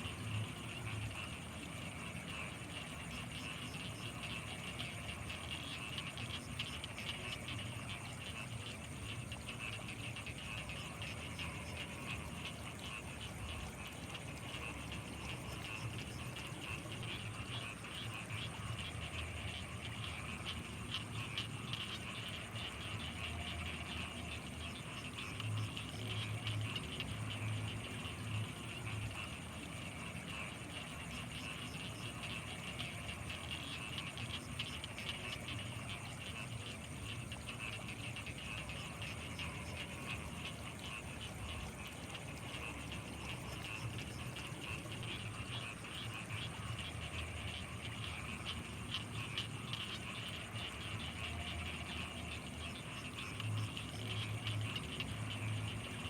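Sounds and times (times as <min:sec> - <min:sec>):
fast-pulsing frog trill: 0:00.0 - 0:56.0
high-pitched insect whine: 0:00.0 - 0:56.0.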